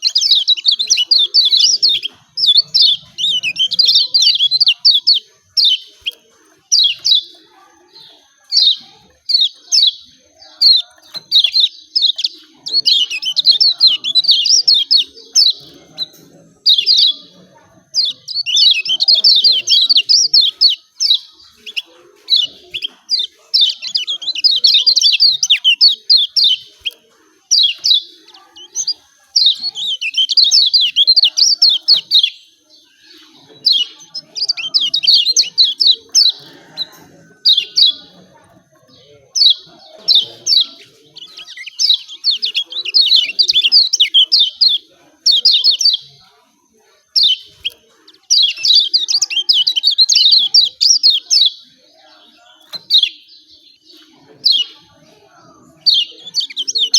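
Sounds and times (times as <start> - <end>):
bird chattering calls: 0.0 - 46.2, 47.0 - 54.9.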